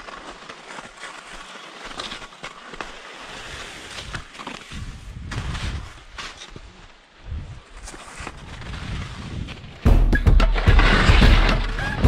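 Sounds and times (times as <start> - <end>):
skis clicking and chattering: 0.0 - 6.9, 7.6 - 12.0
skis scraping over snow: 0.0 - 9.9, 10.6 - 12.0.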